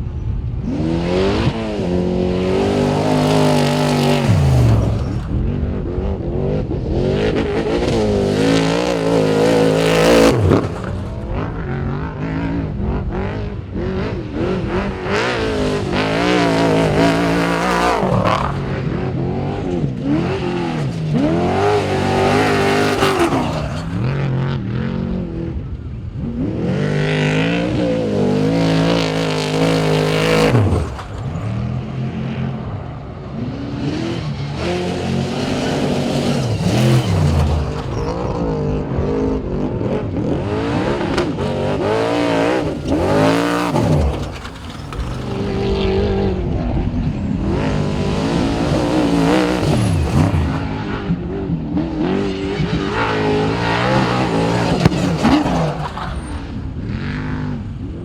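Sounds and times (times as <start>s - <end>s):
truck engines revving hard: 0.0s - 58.0s.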